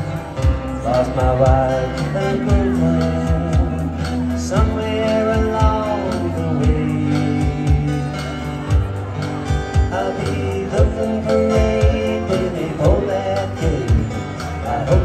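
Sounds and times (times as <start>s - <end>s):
acoustic and electric guitars: 0.0s - 15.0s
low beat and bass line: 0.0s - 15.0s
man singing: 0.0s - 15.0s.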